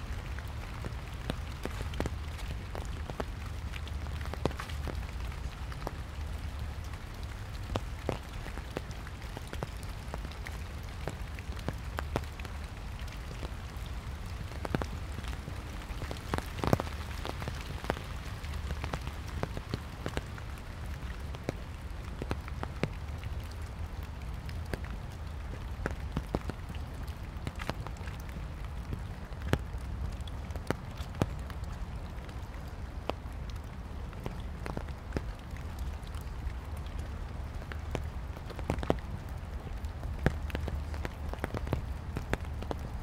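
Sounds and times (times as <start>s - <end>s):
light rain falling: 0.0s - 43.0s
raindrops ticking: 0.0s - 43.0s.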